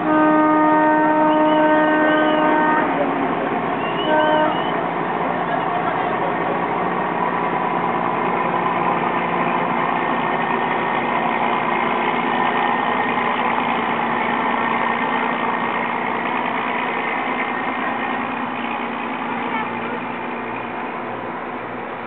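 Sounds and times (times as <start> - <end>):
ship engines humming: 0.0 - 22.0.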